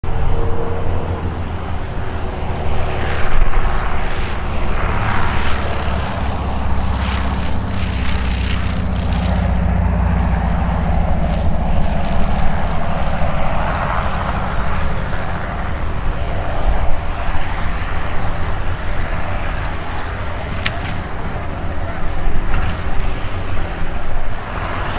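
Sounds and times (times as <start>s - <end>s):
light aircraft engine and propeller: 0.0s - 24.9s.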